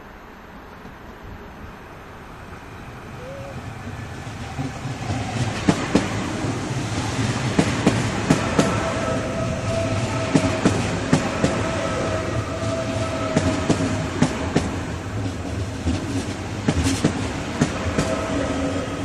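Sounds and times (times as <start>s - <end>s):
steady train whine: 0.0s - 19.0s
train rumble: 0.0s - 19.0s.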